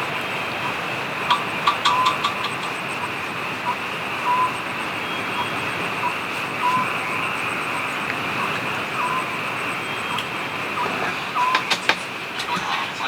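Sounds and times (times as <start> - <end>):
short chirping calls: 0.0 - 13.0
steady rain falling: 0.0 - 13.0.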